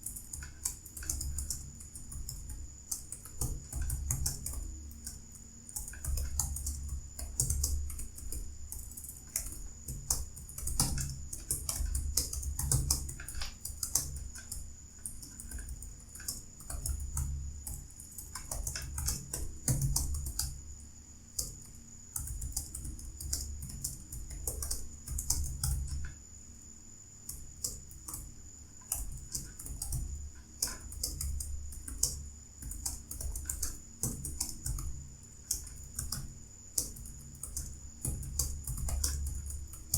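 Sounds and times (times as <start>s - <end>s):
fast typing on keyboard: 0.0s - 20.6s, 21.4s - 26.1s, 28.9s - 39.9s.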